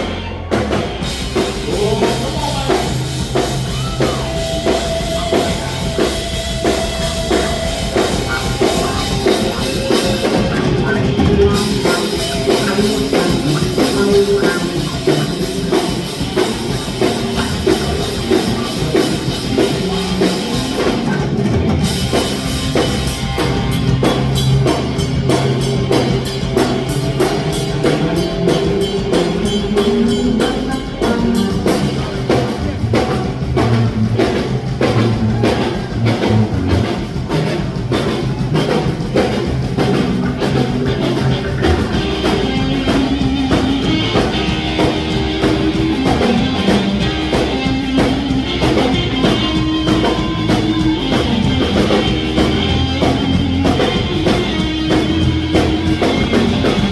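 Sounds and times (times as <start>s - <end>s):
drum kit beat: 0.0s - 56.9s
electric guitar: 0.0s - 56.9s.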